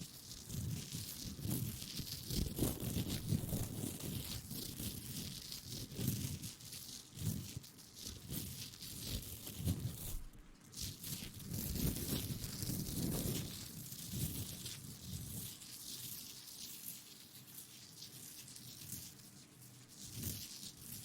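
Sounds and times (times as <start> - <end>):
rubbing and crinkling: 0.0 - 21.0.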